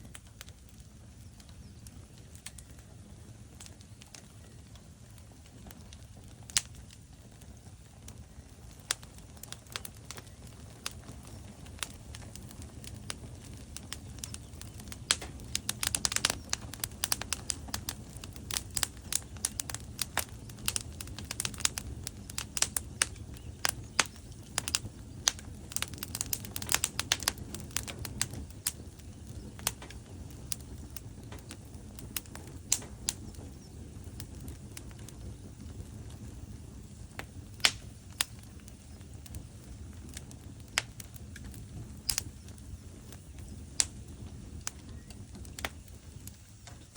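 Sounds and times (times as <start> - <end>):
fire crackling and popping: 0.0 - 46.9
low rumble of flames: 0.0 - 46.9.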